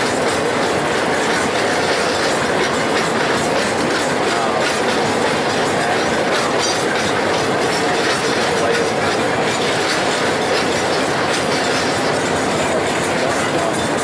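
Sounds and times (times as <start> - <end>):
clicking over rail joints: 0.0 - 14.0
steel wheels rushing on rail: 0.0 - 14.0
wheel squeal: 0.0 - 14.0.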